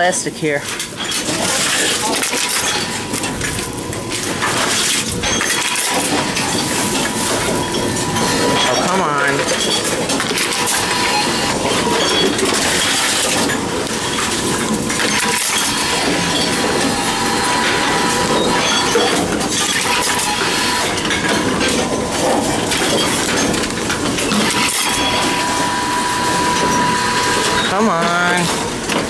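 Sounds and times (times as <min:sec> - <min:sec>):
faint machine whine: 0:00.0 - 0:29.0
bottles and cans clattering: 0:00.7 - 0:29.0.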